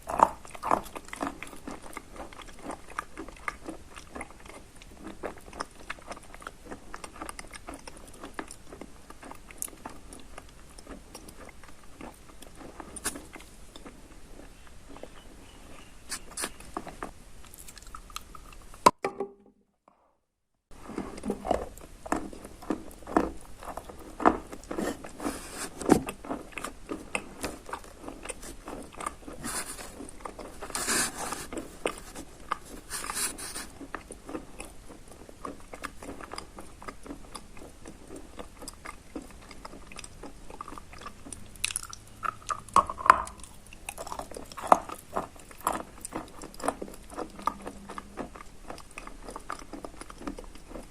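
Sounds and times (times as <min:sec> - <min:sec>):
chewing crunchy chalk: 0:00.0 - 0:18.8, 0:20.8 - 0:50.9.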